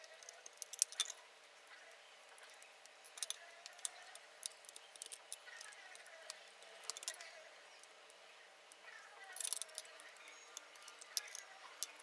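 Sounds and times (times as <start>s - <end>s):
small clicks of hard parts: 0.0s - 1.2s, 2.4s - 8.0s, 8.7s - 12.0s.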